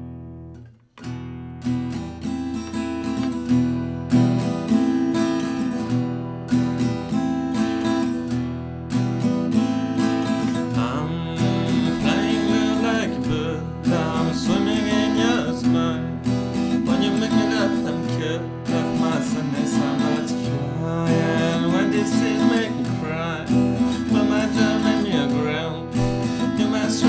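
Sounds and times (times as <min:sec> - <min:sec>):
strummed acoustic guitar song: 0:00.0 - 0:27.0.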